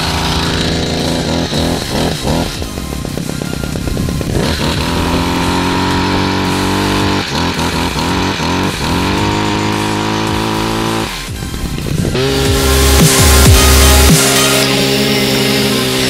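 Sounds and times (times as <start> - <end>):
hedge trimmer engine revving: 0.0 - 16.0.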